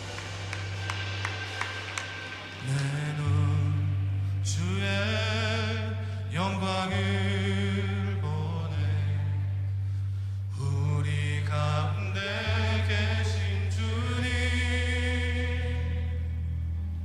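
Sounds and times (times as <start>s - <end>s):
held low bass note: 0.0s - 17.0s
slow worship backing track: 0.0s - 17.0s
sustained chords: 0.0s - 17.0s.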